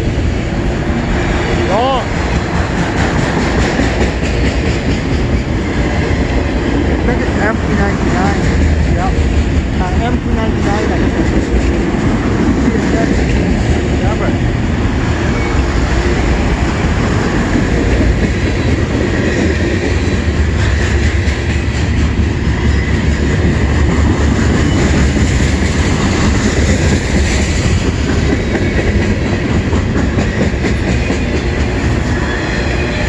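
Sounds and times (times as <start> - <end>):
freight train wheels rolling: 0.0 - 33.0.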